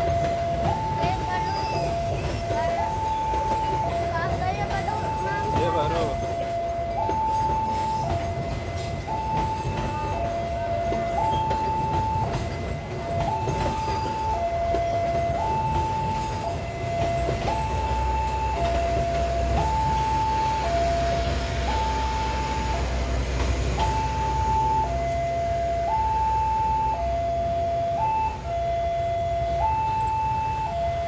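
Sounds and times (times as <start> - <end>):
train rumbling: 0.0 - 31.0
two-tone warning alarm: 0.0 - 31.0.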